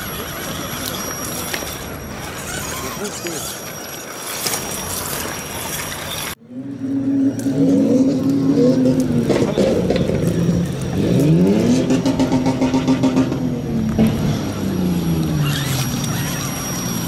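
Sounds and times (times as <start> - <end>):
electric motor and gearbox whining: 0.0 - 6.4, 7.2 - 12.5, 13.3 - 17.0.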